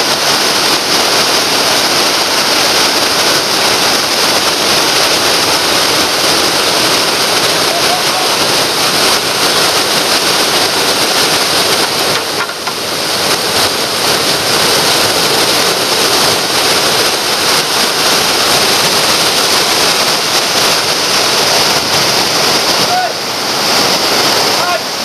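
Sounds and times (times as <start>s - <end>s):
rushing whitewater: 0.0s - 25.0s.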